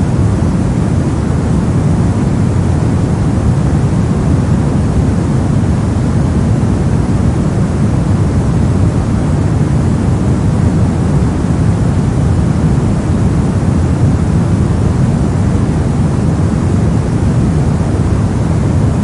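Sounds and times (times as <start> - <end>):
low steady rushing noise: 0.0 - 19.0.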